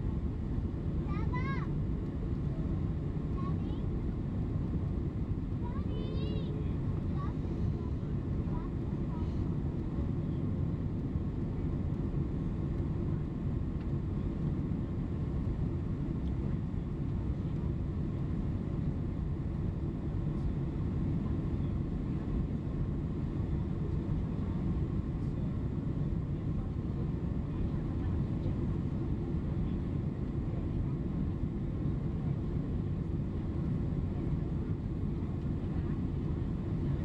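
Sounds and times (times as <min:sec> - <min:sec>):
aircraft cabin engine noise: 0:00.0 - 0:37.0.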